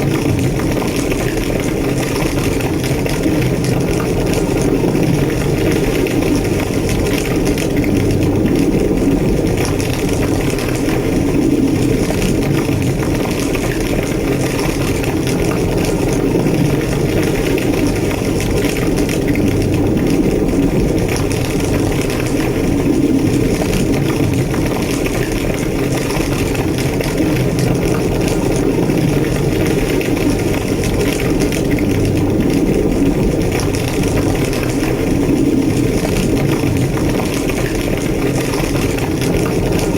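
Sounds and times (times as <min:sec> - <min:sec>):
fire roaring and crackling: 0:00.0 - 0:39.9.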